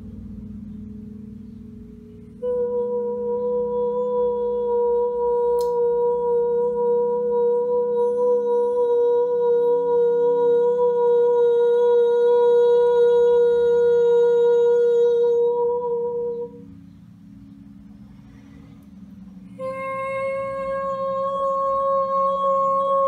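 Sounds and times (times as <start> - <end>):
held healing tone: 0.0 - 23.0
low steady drone: 0.0 - 23.0.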